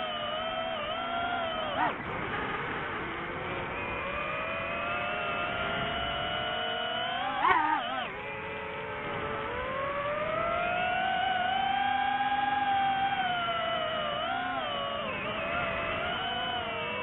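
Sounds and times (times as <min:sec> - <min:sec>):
drone propellers whining: 0:00.0 - 0:17.0
loud drone warble: 0:00.0 - 0:17.0.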